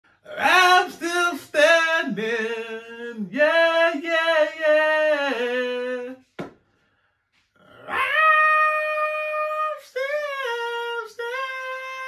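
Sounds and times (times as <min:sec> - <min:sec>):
man singing unaccompanied: 0:00.3 - 0:06.4, 0:07.8 - 0:12.0.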